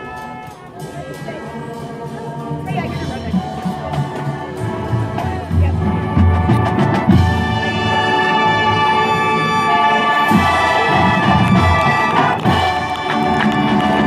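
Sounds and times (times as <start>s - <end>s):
brass sustained chords: 0.0s - 14.0s.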